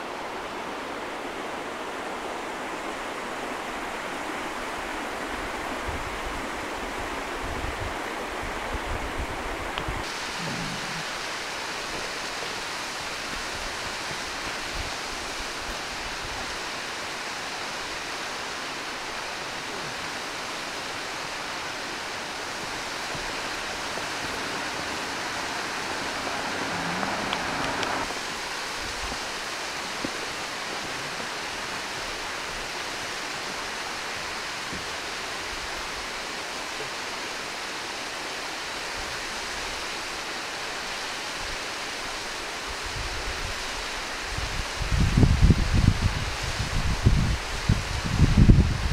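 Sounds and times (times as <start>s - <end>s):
waterfall rushing hiss: 0.0s - 48.9s.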